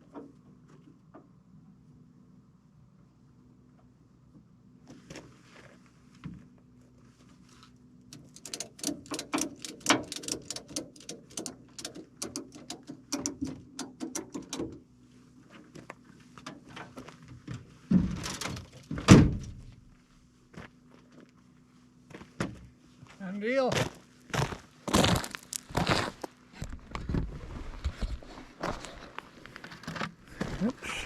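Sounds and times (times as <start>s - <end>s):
steady low hum: 0.0s - 23.2s, 23.8s - 31.0s.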